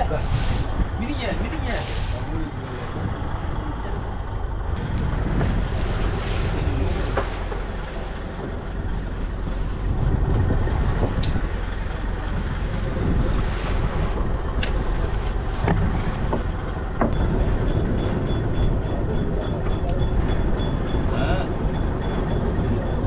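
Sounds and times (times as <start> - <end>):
boat engine rumbling: 0.0 - 23.0
sea noise: 0.0 - 23.0
wind: 0.0 - 23.0.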